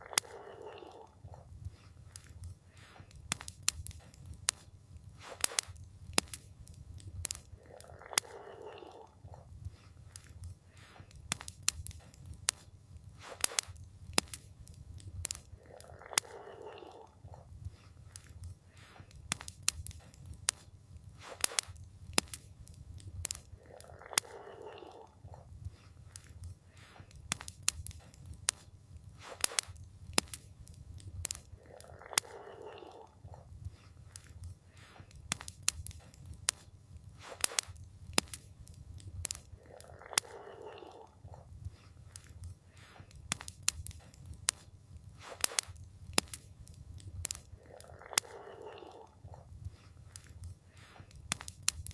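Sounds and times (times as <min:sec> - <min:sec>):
wood fire crackling: 0:00.0 - 0:51.9
sharp pops and snaps: 0:01.6 - 0:09.0, 0:09.6 - 0:17.0, 0:17.6 - 0:25.0, 0:25.6 - 0:41.0, 0:41.6 - 0:51.9.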